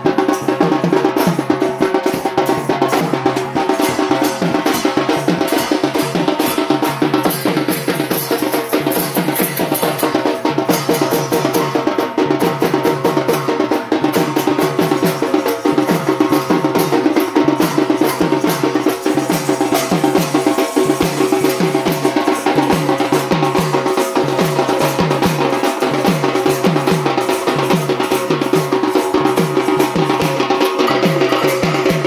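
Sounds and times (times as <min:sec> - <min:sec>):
fast even drumming: 0:00.0 - 0:32.0.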